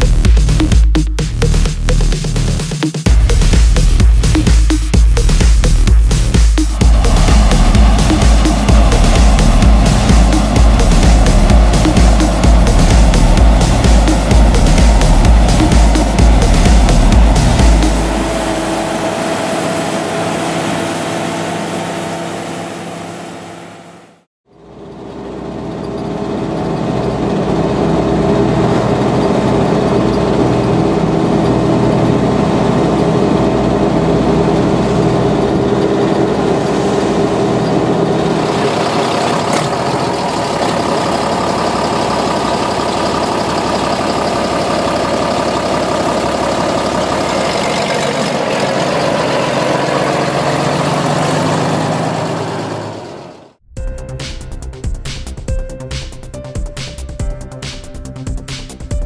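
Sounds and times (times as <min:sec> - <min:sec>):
tractor diesel engine running: 0:00.0 - 0:53.7.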